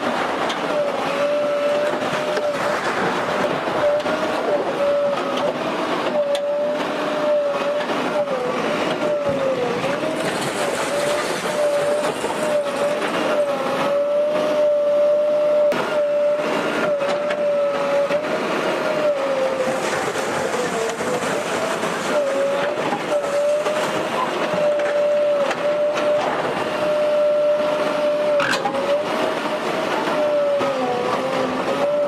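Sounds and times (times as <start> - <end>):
bulldozer engine whining: 0.0 - 32.0.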